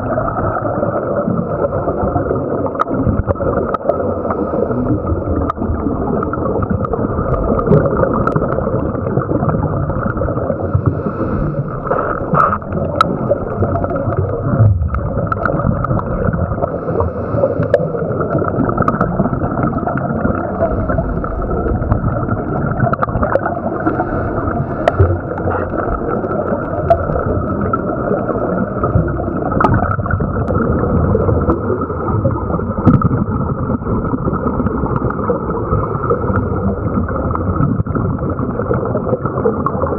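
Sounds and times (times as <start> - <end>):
moving water underwater: 0.0 - 39.9
scuba exhalation bubbles: 0.0 - 39.9.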